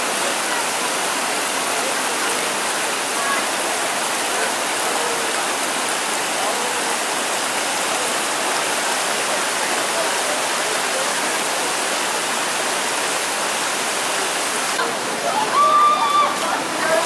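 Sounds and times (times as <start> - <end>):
stream rushing over boulders: 0.0 - 17.0.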